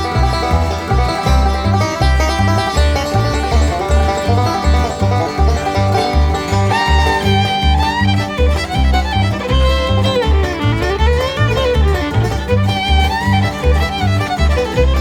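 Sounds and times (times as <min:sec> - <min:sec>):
bass and guitar rhythm: 0:00.0 - 0:15.0
bluegrass fiddle melody: 0:00.0 - 0:15.0.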